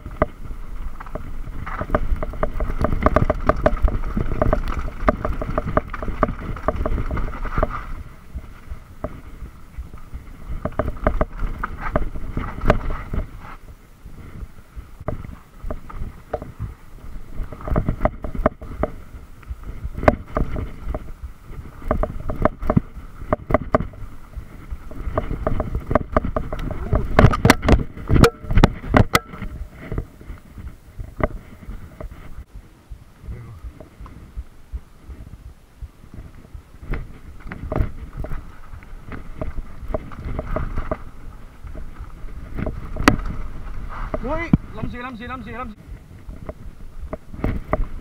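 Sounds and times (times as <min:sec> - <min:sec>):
bike clattering over bumps: 0:00.0 - 0:32.5, 0:36.1 - 0:45.0
tyres rumbling on dirt: 0:00.0 - 0:32.6, 0:33.2 - 0:48.0
wind: 0:00.0 - 0:48.0.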